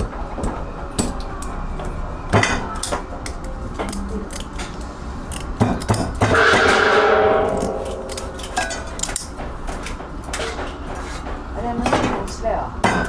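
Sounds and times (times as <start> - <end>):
dishes and utensils clattering: 0.0 - 13.0
low background hum: 0.0 - 13.0.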